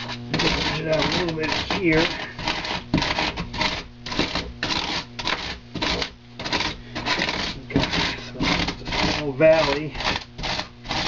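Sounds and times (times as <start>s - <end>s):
ruler scraping polystyrene foam: 0.0s - 11.0s.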